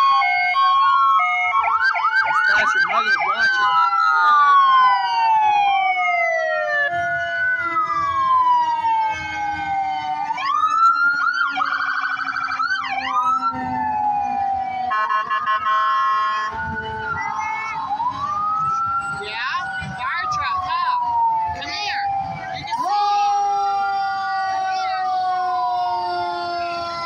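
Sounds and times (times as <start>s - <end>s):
fire truck sirens wailing: 0.0s - 27.0s
siren yelp: 0.0s - 27.0s
steady siren blast: 0.0s - 27.0s.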